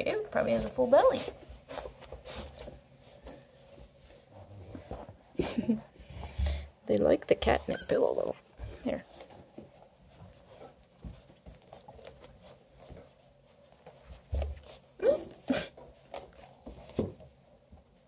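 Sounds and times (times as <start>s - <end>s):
puppies rustling and pawing: 0.0s - 18.0s.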